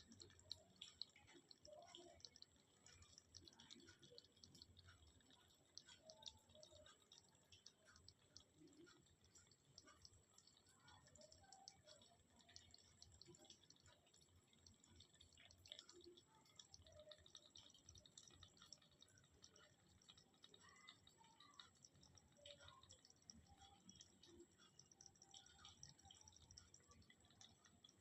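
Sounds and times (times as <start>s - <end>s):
mud crabs clicking and crackling: 0.0s - 28.0s.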